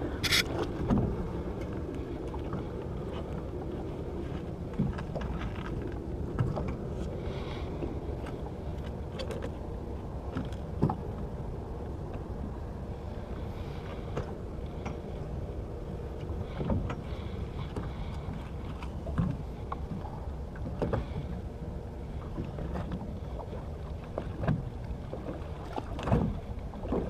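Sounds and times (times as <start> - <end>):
motorboat engine rumbling: 0.0 - 27.0.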